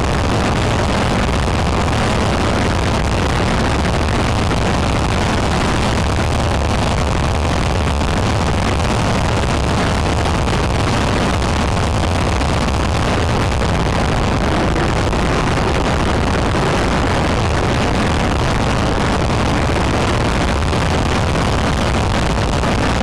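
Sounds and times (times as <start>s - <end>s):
car engine at highway speed: 0.0s - 23.0s
road and tyre noise: 0.0s - 23.0s.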